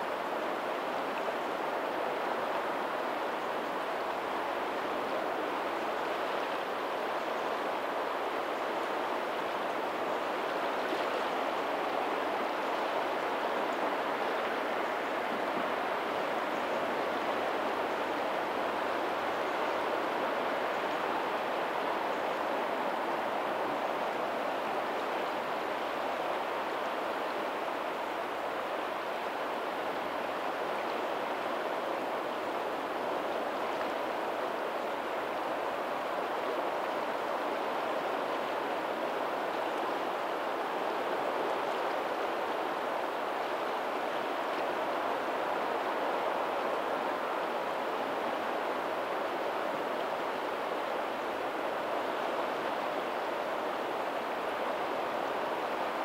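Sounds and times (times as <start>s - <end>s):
faint ocean surf: 0.0s - 56.0s.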